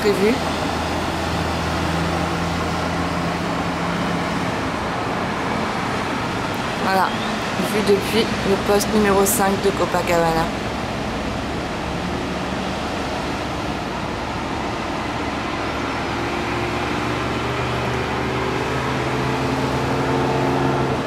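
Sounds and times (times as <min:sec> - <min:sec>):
road traffic noise: 0:00.0 - 0:21.0
vehicle engine hum: 0:00.0 - 0:21.0.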